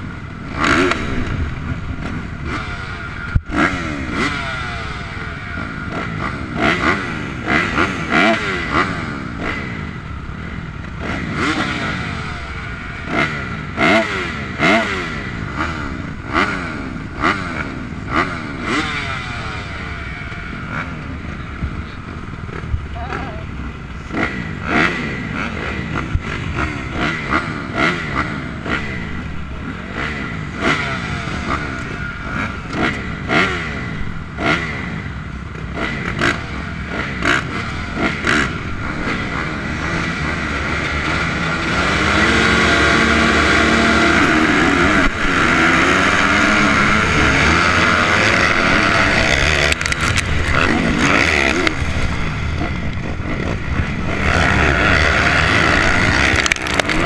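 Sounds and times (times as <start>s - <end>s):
motocross engines revving: 0.0s - 57.0s.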